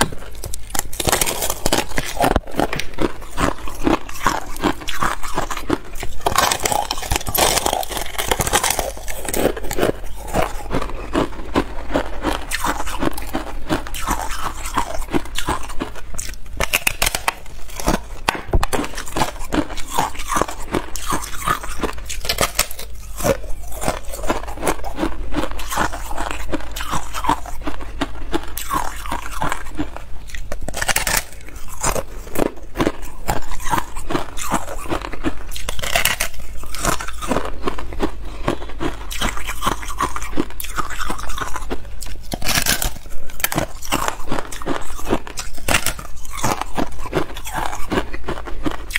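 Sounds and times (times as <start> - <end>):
ice crunching between teeth: 0.0 - 48.9.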